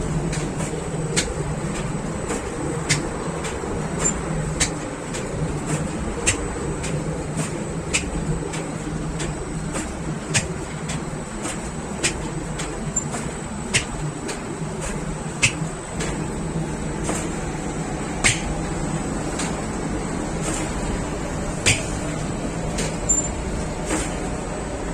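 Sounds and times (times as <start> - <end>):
machinery hum and whine: 0.0 - 24.9
sharp clicks and knocks: 0.2 - 24.4.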